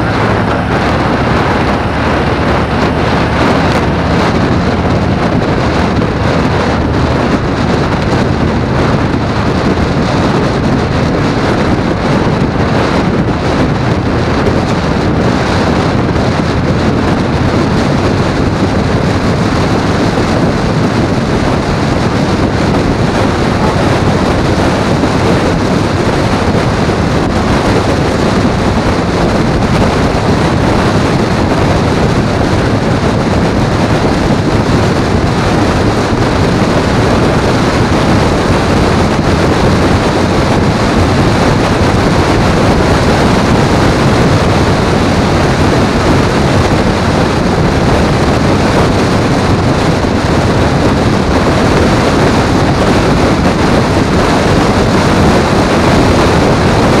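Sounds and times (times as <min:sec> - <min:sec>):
vehicle road noise: 0:00.0 - 0:57.0
wind rushing over microphone: 0:00.0 - 0:57.0.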